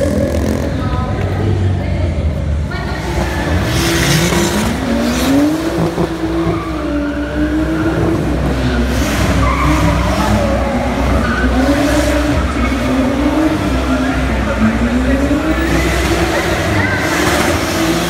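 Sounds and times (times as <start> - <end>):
car engines revving: 0.0 - 18.0
tyres squealing and skidding: 2.9 - 18.0.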